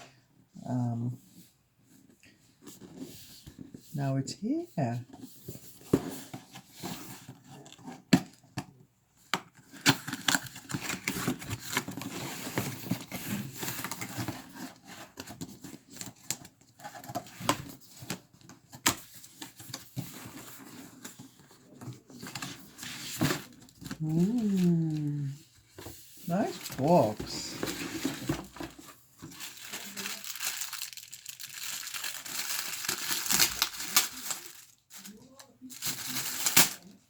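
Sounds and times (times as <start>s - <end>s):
cardboard packaging rustling and tearing: 5.0s - 8.8s, 9.4s - 37.0s.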